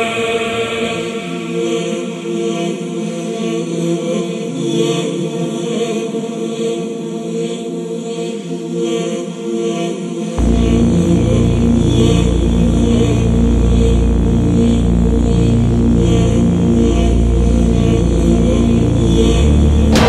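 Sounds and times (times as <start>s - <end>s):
chant-like vocal drone: 0.0s - 20.0s.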